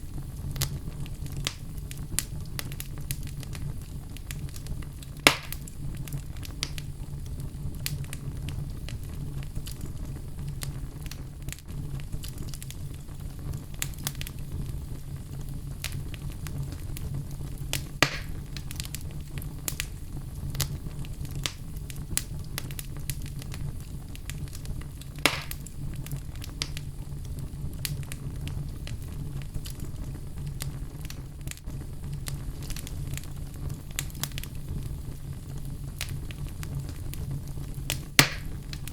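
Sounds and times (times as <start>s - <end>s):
fireplace fire crackling: 0.0s - 38.9s
loud fire snaps: 0.0s - 38.9s.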